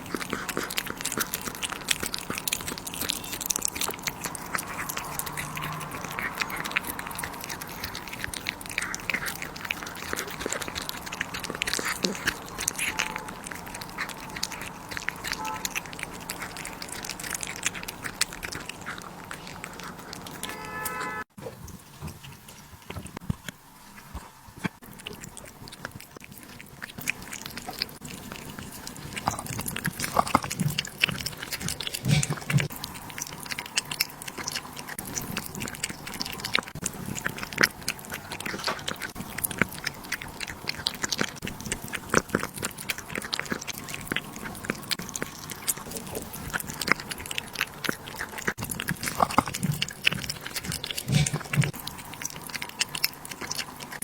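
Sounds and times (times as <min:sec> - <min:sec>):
pet chewing food: 0:00.0 - 0:54.0.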